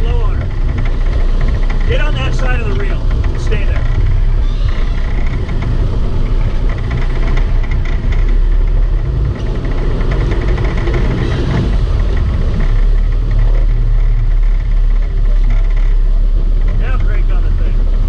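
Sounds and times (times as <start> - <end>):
boat engines rumbling: 0.0 - 18.0.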